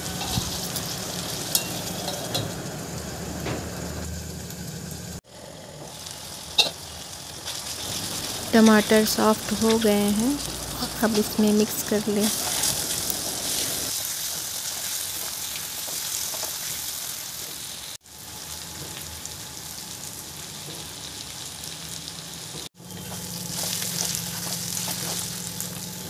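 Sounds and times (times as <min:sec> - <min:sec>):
curry sizzling in a pan: 0:00.0 - 0:03.2, 0:03.8 - 0:26.0.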